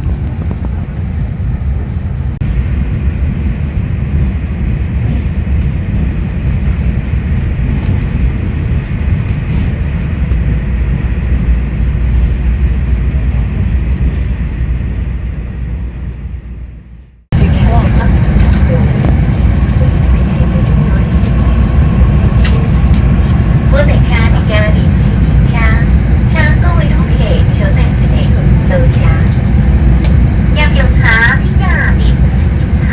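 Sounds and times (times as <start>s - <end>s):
train rumble and hiss: 0.0s - 16.4s, 17.4s - 32.9s.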